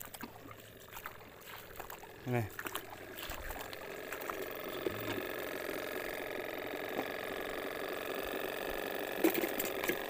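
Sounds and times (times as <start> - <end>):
air pump buzzing: 0.0 - 10.0.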